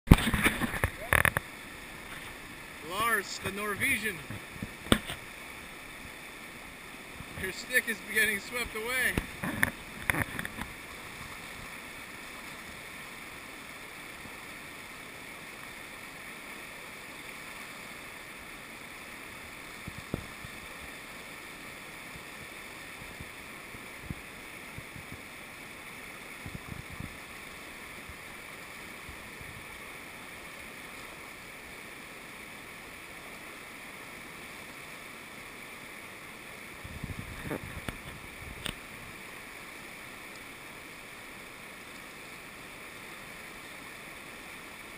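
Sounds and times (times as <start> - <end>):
river rapids rushing: 0.1 - 44.9.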